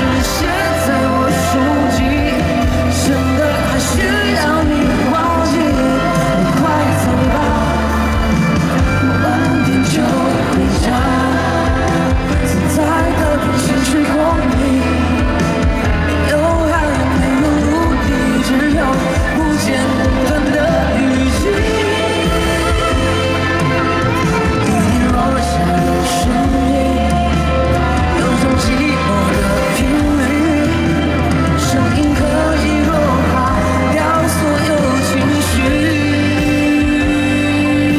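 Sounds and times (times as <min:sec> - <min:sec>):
live pop band playing: 0:00.0 - 0:37.9
person singing: 0:00.0 - 0:37.9.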